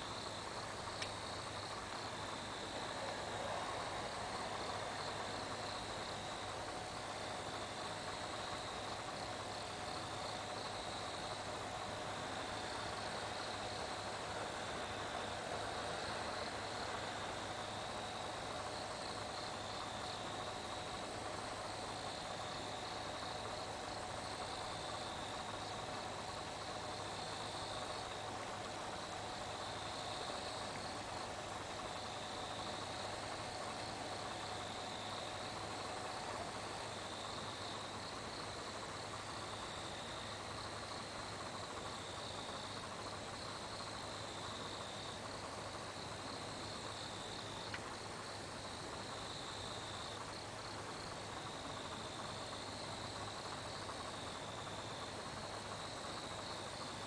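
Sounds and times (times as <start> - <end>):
crickets chirring: 0.0 - 57.0
faint steady hum: 0.0 - 57.0.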